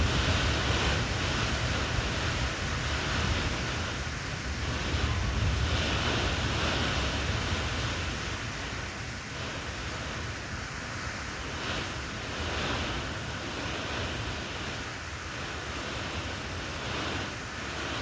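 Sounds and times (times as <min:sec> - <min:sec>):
storm wind buffeting microphone: 0:00.0 - 0:14.8.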